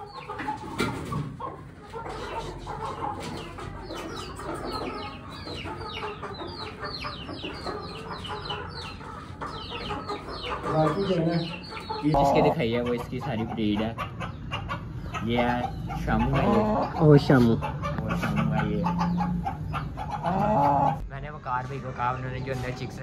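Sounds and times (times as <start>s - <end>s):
chickens clucking: 0.0s - 23.0s
chicks peeping: 0.0s - 23.0s.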